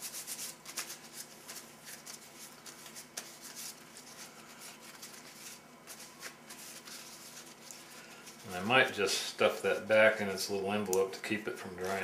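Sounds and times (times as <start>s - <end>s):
wet wipe rustling: 0.0s - 10.0s.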